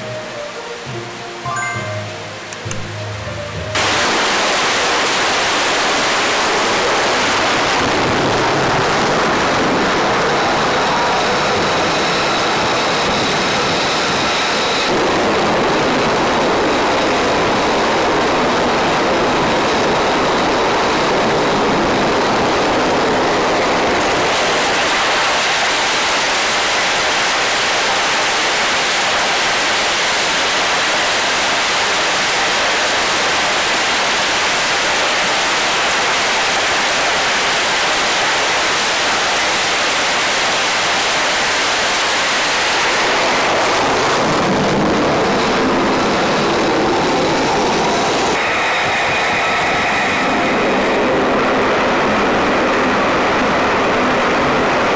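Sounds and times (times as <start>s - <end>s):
jet engine roaring: 2.3s - 54.9s.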